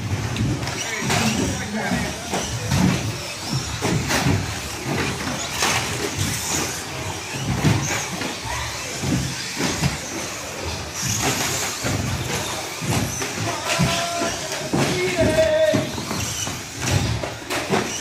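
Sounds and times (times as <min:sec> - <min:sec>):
rc truck motors whirring: 0:00.0 - 0:18.0
trucks knocking and clattering: 0:00.0 - 0:18.0.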